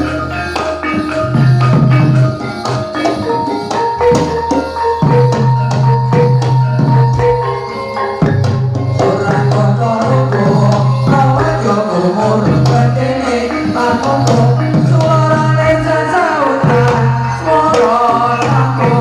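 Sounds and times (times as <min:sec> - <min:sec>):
drum and percussion strokes: 0:00.0 - 0:19.0
sustained pitched notes: 0:00.0 - 0:19.0.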